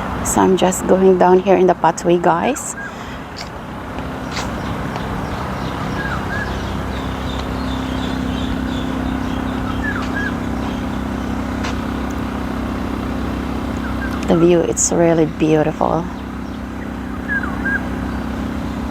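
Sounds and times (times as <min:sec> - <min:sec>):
low vehicle hum: 0:00.0 - 0:18.9
birds chirping: 0:00.6 - 0:18.9.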